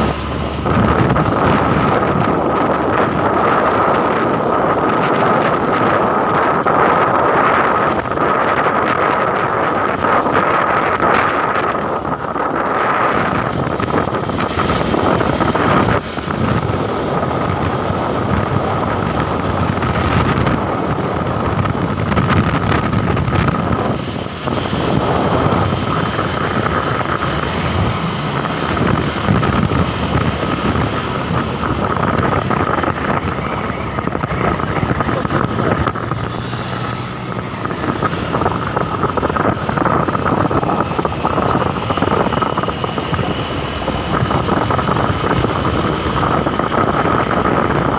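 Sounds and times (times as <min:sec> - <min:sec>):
engine and road noise: 0:00.0 - 0:47.9
wind on microphone: 0:00.0 - 0:47.9.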